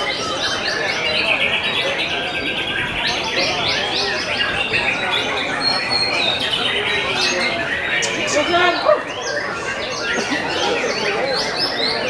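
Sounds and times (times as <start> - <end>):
songbirds singing trills and whistles: 0.0 - 12.0.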